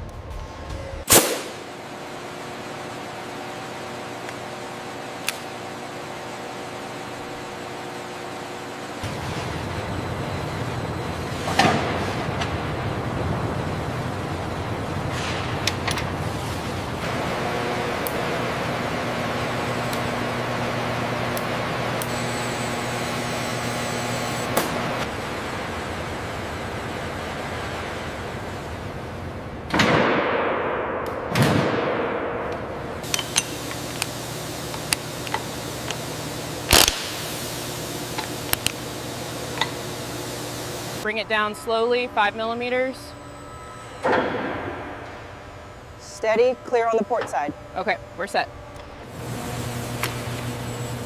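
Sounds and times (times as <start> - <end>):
industrial hum and hiss: 0.0 - 51.0.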